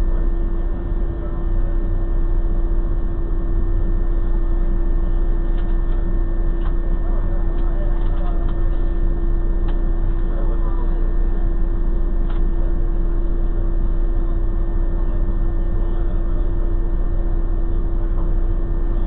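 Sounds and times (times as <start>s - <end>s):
car engine idling: 0.0s - 19.0s
electrical hum: 0.0s - 19.0s.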